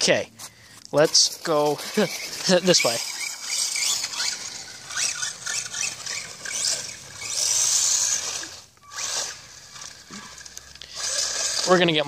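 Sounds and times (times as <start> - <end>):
rc truck motor whining: 0.7 - 12.0.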